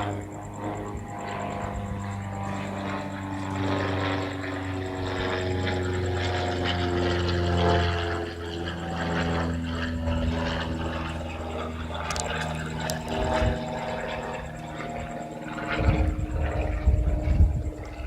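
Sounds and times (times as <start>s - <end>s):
light aircraft engine droning: 0.0s - 18.0s.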